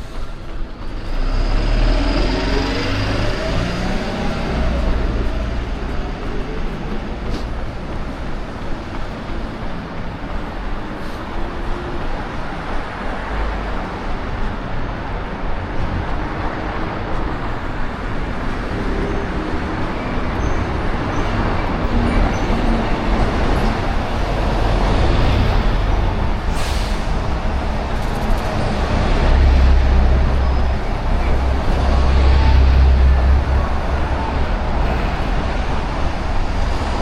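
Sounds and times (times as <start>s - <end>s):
city road traffic rumble: 0.0s - 37.0s.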